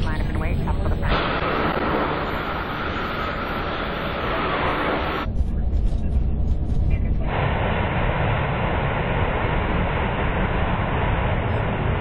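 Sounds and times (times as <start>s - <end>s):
low rumble of aircraft rolling: 2.2s - 12.0s.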